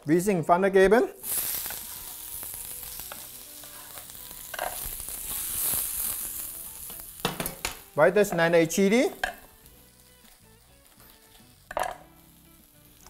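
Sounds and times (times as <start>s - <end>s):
cabbage sizzling in oil: 1.2s - 13.0s.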